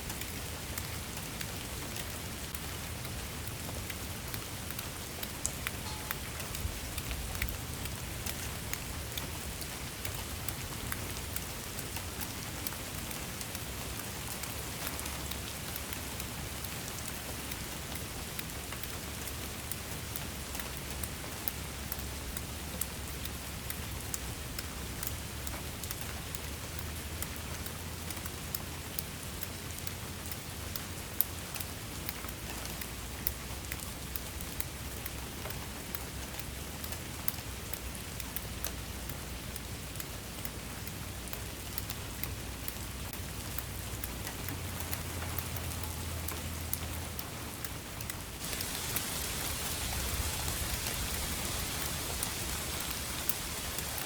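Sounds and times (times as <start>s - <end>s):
raindrops ticking on hard surface: 0.0s - 54.0s
steady rain hiss: 0.0s - 54.0s.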